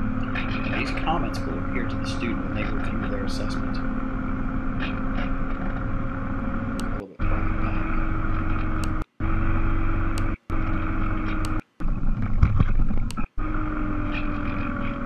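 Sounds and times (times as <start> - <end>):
drone motors buzzing: 0.0 - 15.0.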